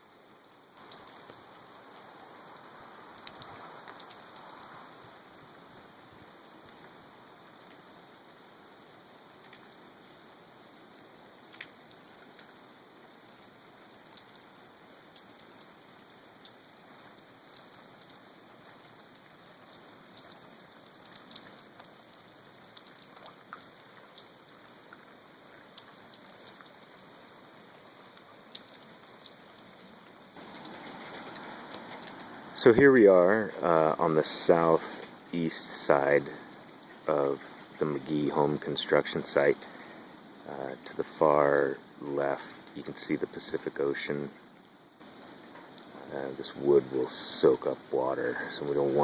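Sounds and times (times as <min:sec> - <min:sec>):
light rain pattering: 0:00.0 - 0:49.0.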